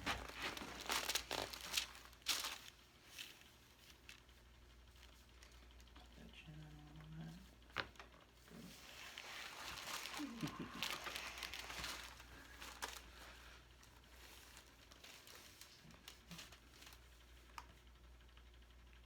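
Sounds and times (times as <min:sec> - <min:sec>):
rustling and crinkling on table: 0:00.0 - 0:06.2, 0:07.2 - 0:18.0.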